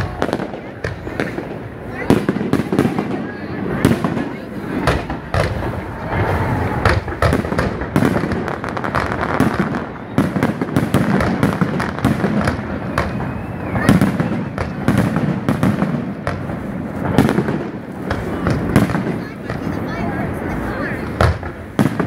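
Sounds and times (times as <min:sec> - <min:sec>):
fireworks bursting: 0:00.0 - 0:22.0
fireworks crackling: 0:00.0 - 0:22.0.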